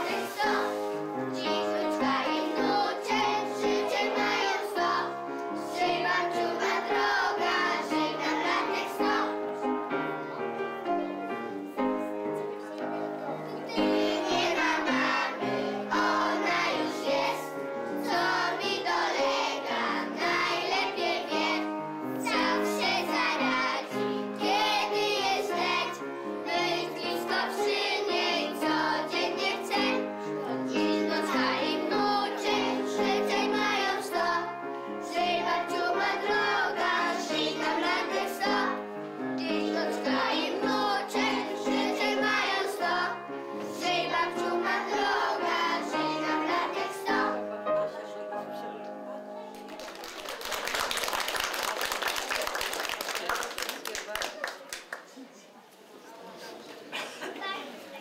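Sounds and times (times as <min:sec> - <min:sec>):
children singing in unison: 0:00.0 - 0:12.0, 0:12.8 - 0:48.1
musical accompaniment: 0:00.0 - 0:51.0.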